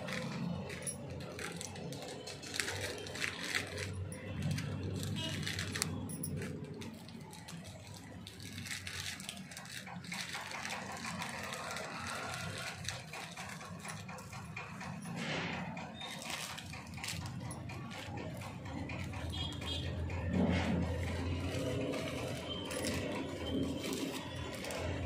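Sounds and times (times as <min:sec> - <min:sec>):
packaging rustling and crinkling: 0:00.0 - 0:25.0.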